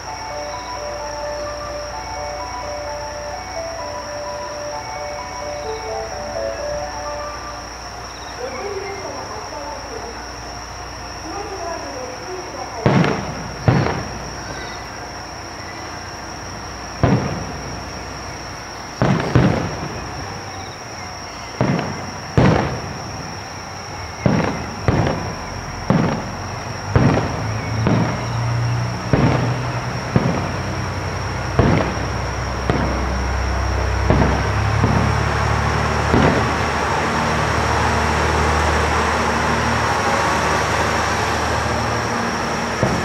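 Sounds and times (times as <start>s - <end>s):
diesel railcar engine hum: 0.0s - 43.0s
fireworks booming with echo: 0.0s - 43.0s.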